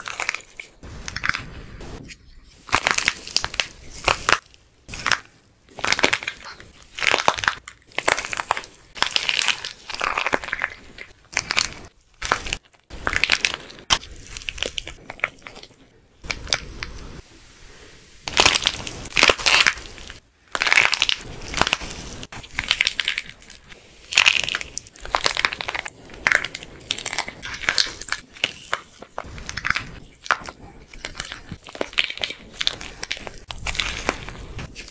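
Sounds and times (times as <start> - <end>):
plaster crust cracking and crunching: 0.0 - 2.0, 2.6 - 17.0, 18.3 - 34.9.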